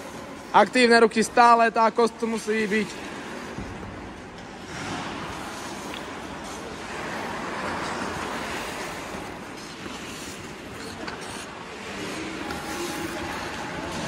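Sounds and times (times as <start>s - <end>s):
skates scraping across ice: 2.2s - 14.0s.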